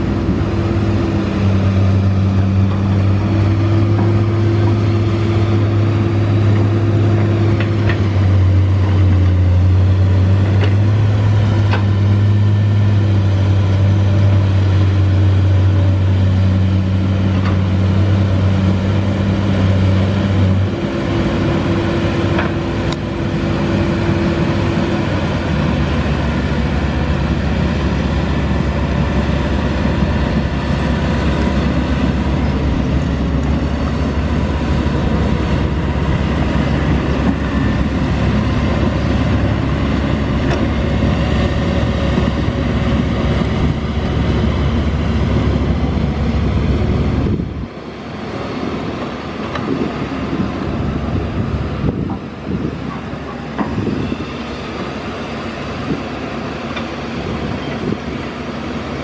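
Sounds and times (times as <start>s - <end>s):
heavy diesel engines under load: 0.0s - 59.0s.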